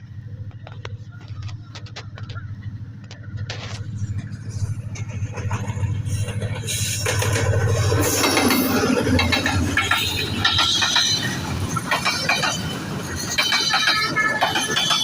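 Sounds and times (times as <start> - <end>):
locomotive engine drone: 0.0 - 15.0
train wheels clattering: 0.0 - 15.0.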